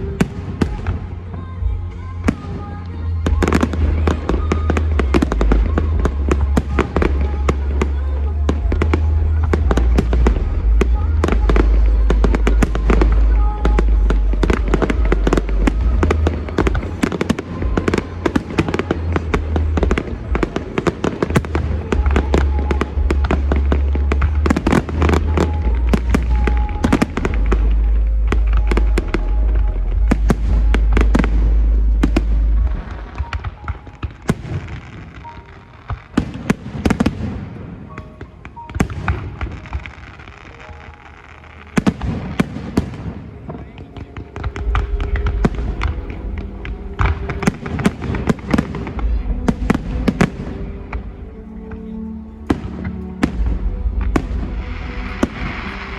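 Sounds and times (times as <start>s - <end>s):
heavy low rumble: 0.0s - 35.2s, 41.0s - 55.9s
fireworks bangs and crackles: 0.0s - 55.9s.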